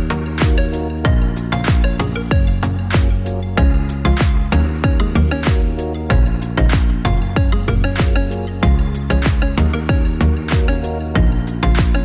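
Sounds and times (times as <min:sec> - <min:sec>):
held chords: 0:00.0 - 0:12.0
steady drum beat: 0:00.0 - 0:12.0.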